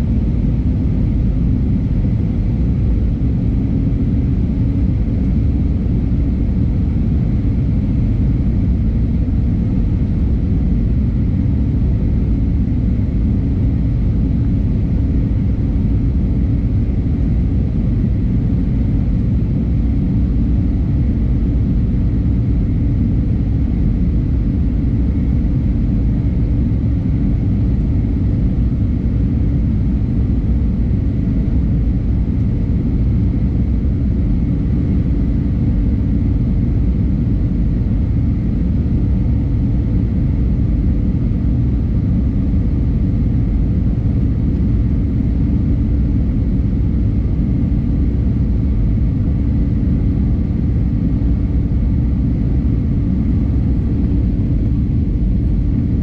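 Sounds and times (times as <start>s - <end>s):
airplane cabin engine rumble: 0.0s - 56.0s
faint steady whine: 0.0s - 56.0s.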